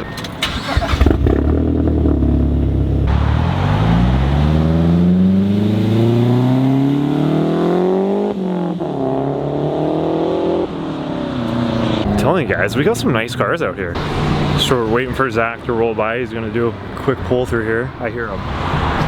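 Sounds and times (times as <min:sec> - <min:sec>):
car engine accelerating: 0:00.4 - 0:19.0.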